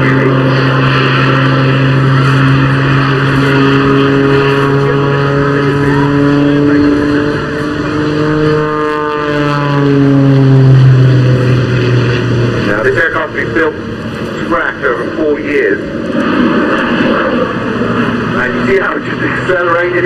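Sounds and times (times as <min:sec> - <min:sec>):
jet turbine noise: 0:00.0 - 0:20.0
propeller engine drone: 0:00.0 - 0:20.0.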